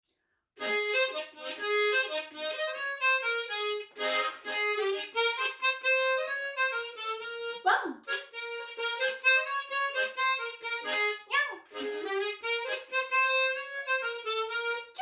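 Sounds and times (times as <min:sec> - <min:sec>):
tremolo harmonica melody: 0:00.6 - 0:15.0.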